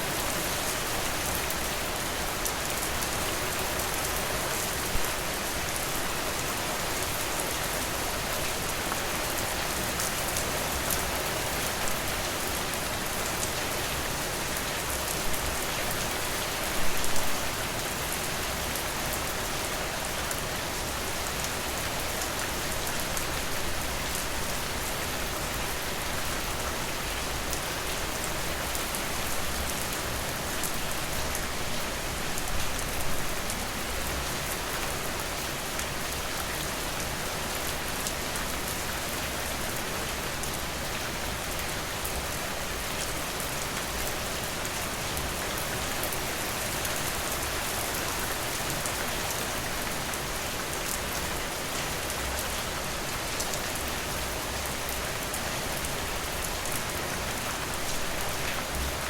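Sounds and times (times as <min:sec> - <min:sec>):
rainfall: 0:00.0 - 0:59.0.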